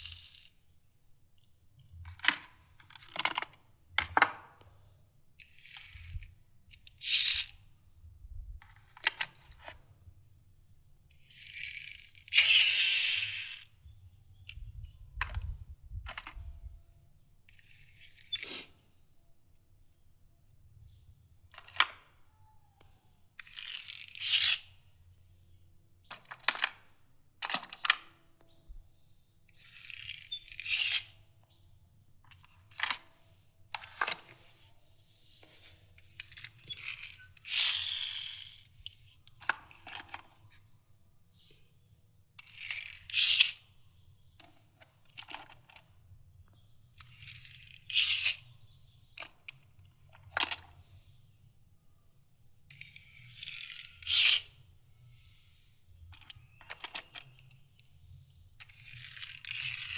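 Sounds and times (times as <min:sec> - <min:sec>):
toy cars scraping and clicking: 0:00.0 - 0:00.7, 0:01.4 - 0:04.7, 0:05.4 - 0:07.7, 0:08.6 - 0:16.5, 0:17.4 - 0:19.3, 0:20.9 - 0:59.9.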